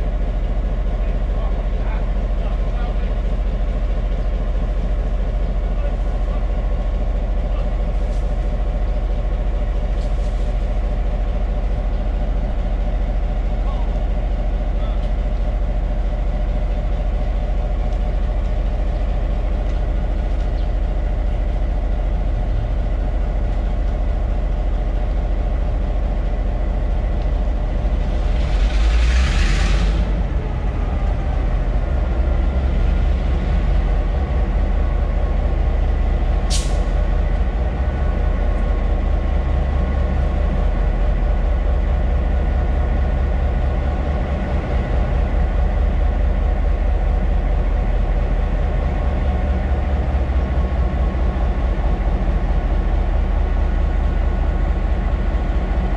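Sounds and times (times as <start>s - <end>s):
diesel locomotives idling: 0.0s - 55.9s.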